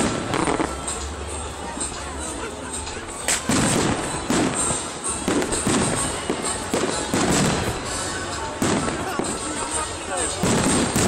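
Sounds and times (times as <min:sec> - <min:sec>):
fireworks bursting with bangs: 0:00.0 - 0:02.0, 0:02.8 - 0:11.0.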